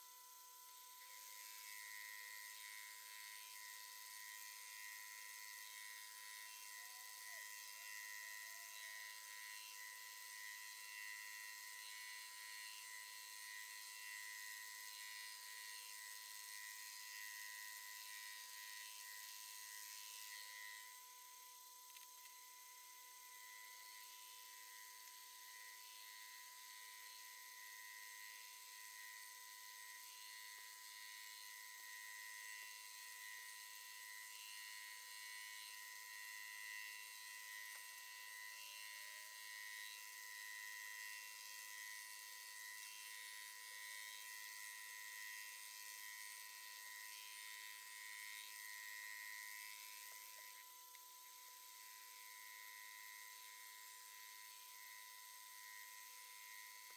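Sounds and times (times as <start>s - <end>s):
faint high-pitched machine whine: 0.0s - 56.9s.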